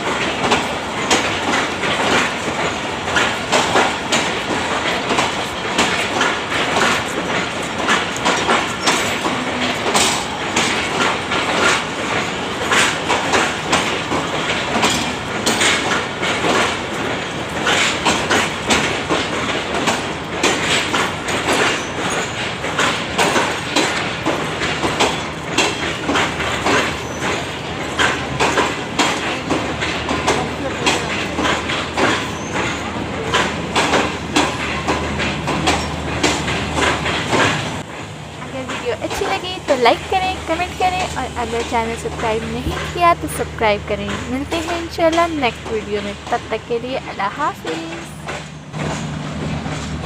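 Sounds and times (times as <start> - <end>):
train wheels clacking over rail joints: 0.0 - 50.0.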